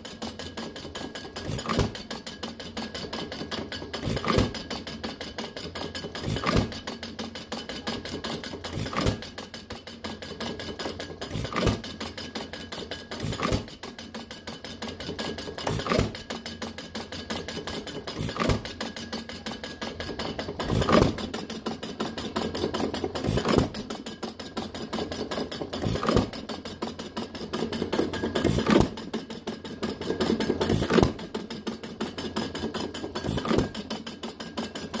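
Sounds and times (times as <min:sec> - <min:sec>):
fast light mechanical clatter: 0:00.0 - 0:35.0
engine firing with loud knock: 0:00.1 - 0:35.0.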